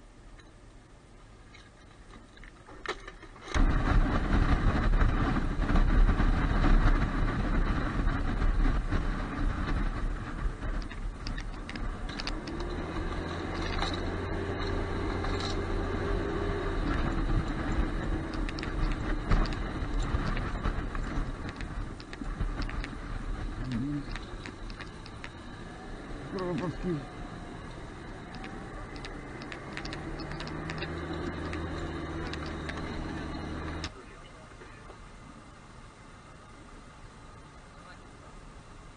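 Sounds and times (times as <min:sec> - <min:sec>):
armoured vehicle engine: 0:00.0 - 0:38.9.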